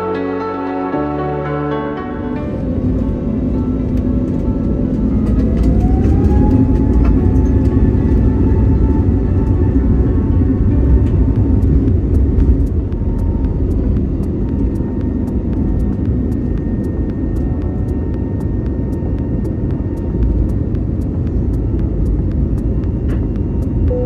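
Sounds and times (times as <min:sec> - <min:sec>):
faint engine whine: 0:02.0 - 0:24.0
jet engines rumbling: 0:02.0 - 0:24.0.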